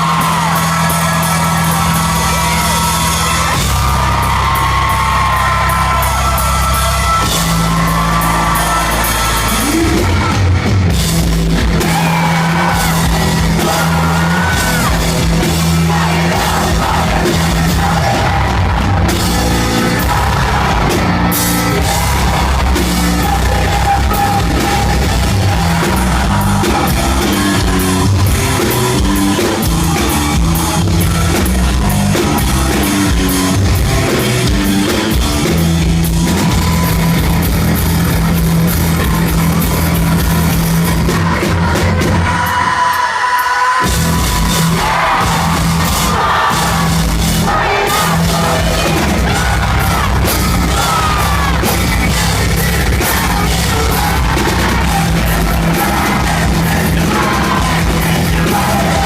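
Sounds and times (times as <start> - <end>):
held bass notes: 0.0 - 42.4, 43.8 - 59.0
drums: 0.0 - 59.0
sung and yelled vocals: 0.0 - 59.0.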